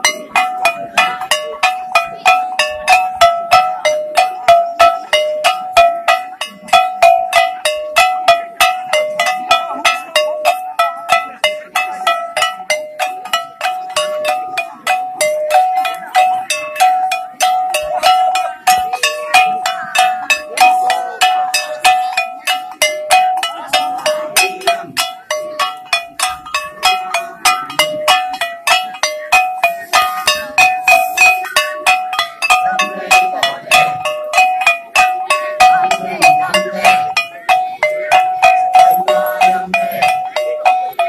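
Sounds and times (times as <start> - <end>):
hand-held gongs struck: 0.0 - 41.0.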